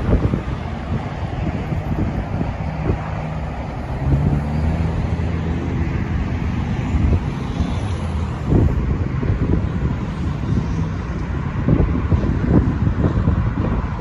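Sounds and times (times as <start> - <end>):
vehicle engine hum: 0.0 - 14.0
wind buffeting microphone: 0.0 - 14.0.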